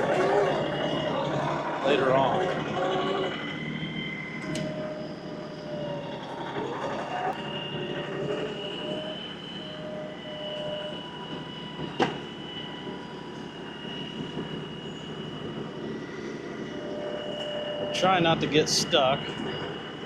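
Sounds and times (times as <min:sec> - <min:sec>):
thin high whine: 0:00.0 - 0:20.0
tractor engine drone: 0:00.0 - 0:20.0.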